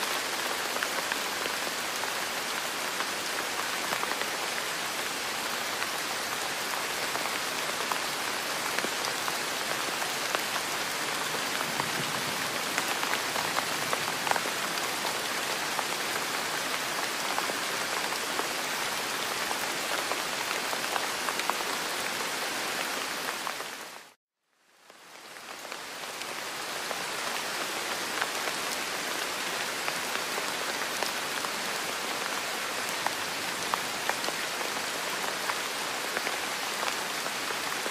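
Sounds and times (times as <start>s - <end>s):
rain hiss: 0.0s - 37.9s.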